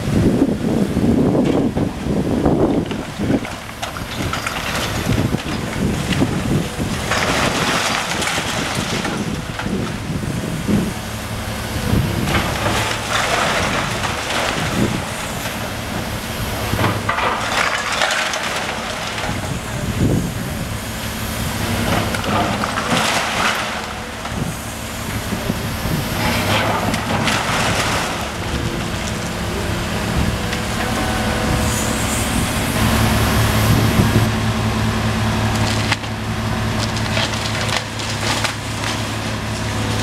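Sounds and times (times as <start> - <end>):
brick debris crunching and tumbling: 0.0 - 34.4, 35.1 - 40.0
excavator diesel engine: 0.0 - 40.0.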